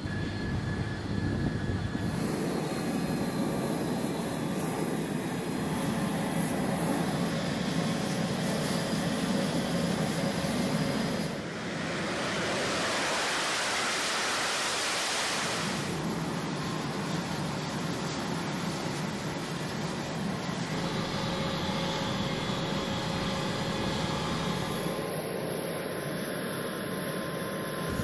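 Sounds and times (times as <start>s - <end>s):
jet engine rumble and hiss: 0.0s - 28.0s.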